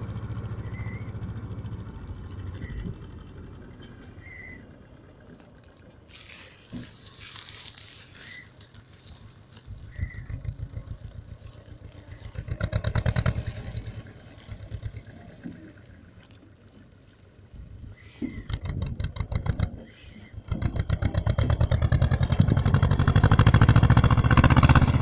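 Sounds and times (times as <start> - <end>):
tractor diesel engine revving: 0.0 - 17.3, 18.2 - 25.0.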